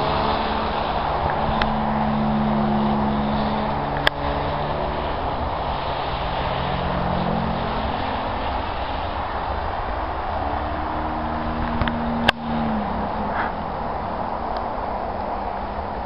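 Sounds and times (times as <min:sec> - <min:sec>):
model airplane engine droning: 0:00.0 - 0:16.0.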